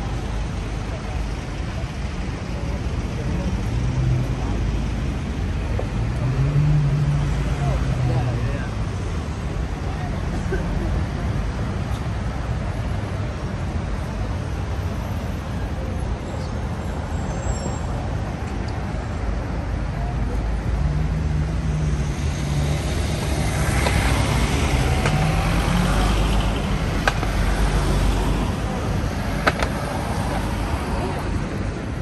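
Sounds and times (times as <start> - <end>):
road traffic passing: 0.0 - 32.0.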